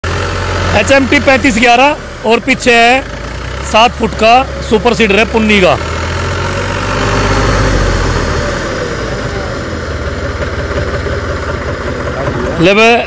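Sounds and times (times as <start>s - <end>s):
dense mechanical rushing: 0.0s - 13.0s
tractor diesel engine drone: 0.0s - 13.0s.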